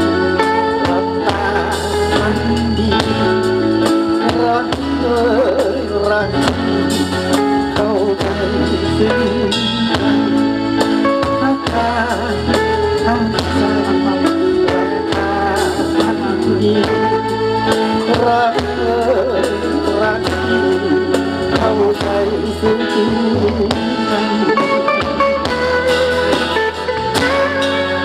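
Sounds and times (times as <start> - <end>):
bass: 0.0 - 28.0
drums: 0.0 - 28.0
guitar: 0.0 - 28.0
person singing: 0.0 - 28.0.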